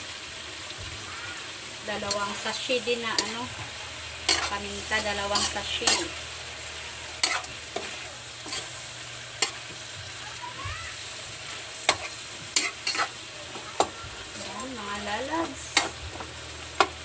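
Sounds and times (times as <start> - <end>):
shrimp sizzling: 0.0 - 17.0
metal spatula scraping wok: 1.9 - 9.9, 10.9 - 17.0.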